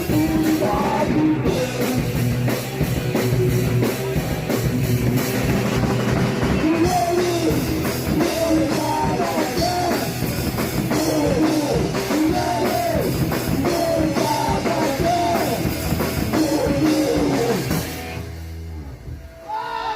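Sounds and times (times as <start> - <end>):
driving drum kit: 0.0 - 19.1
distorted fast punk rock band: 0.0 - 19.9.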